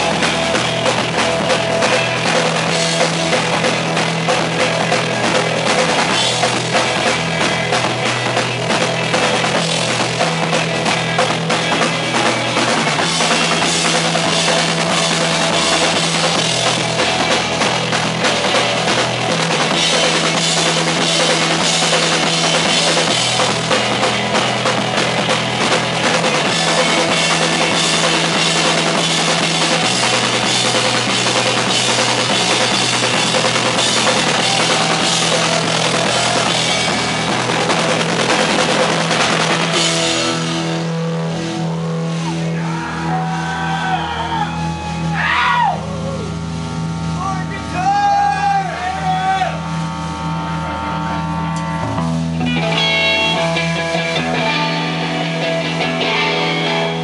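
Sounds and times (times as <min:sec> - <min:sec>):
drum kit pounding: 0:00.0 - 0:57.0
held low bass notes: 0:00.0 - 0:57.0.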